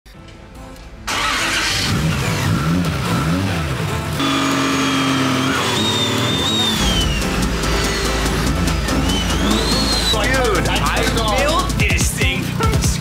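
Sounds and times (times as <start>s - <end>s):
car engine revving: 1.1s - 12.8s.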